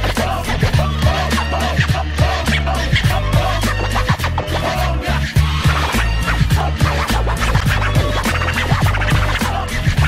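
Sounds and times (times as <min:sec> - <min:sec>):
hip hop music: 0:00.0 - 0:10.0
record scratching: 0:00.0 - 0:10.0.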